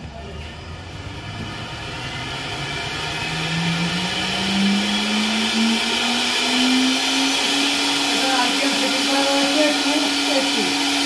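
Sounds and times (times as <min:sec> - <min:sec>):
spindle motor whine spinning up: 0:00.0 - 0:11.0.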